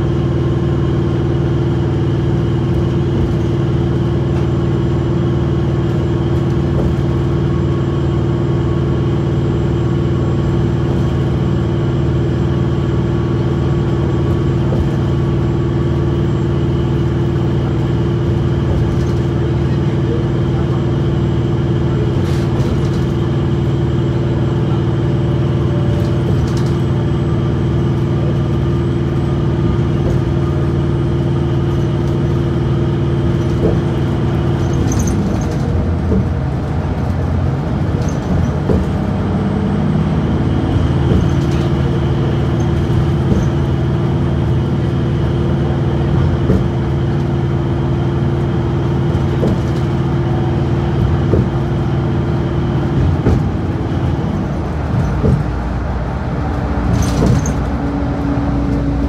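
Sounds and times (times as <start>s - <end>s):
bus driving hum: 0.0s - 59.0s
road noise: 0.0s - 59.0s.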